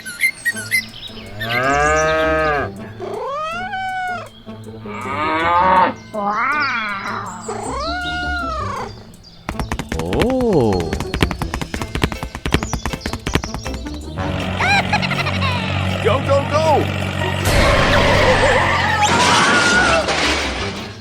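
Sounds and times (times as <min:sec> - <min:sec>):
drawn-out animal calls: 0:00.0 - 0:21.0.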